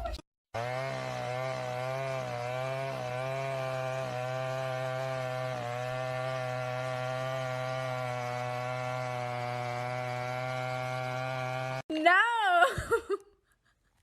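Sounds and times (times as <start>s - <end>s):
small motor running: 0.6s - 11.9s.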